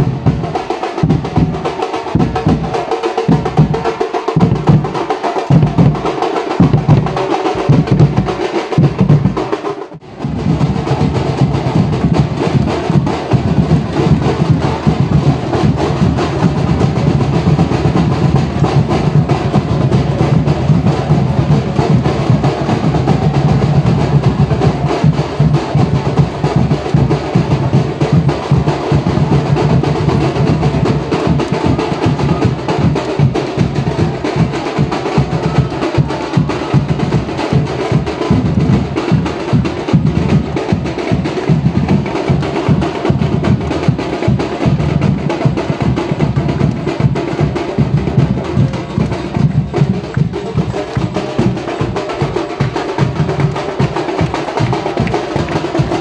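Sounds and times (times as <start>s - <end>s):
fast drumming: 0.0s - 56.0s
low drum beat: 0.0s - 56.0s.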